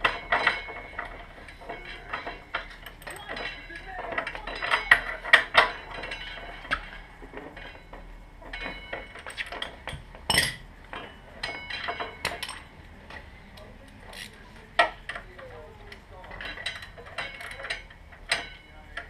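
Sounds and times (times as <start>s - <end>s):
hand tools clinking on metal: 0.0s - 19.0s.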